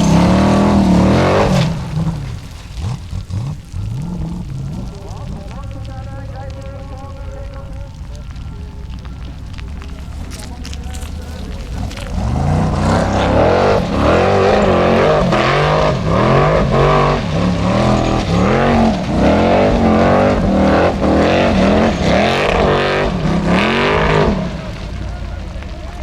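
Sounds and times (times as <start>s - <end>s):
buggy engine revving: 0.0s - 26.0s.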